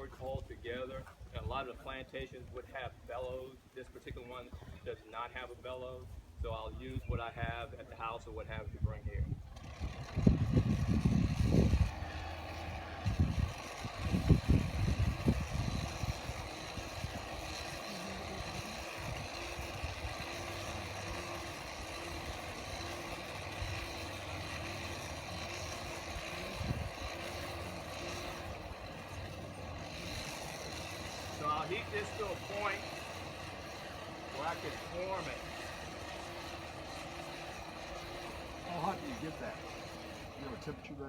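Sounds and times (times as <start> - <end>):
motor-like drone: 0.0 - 41.0.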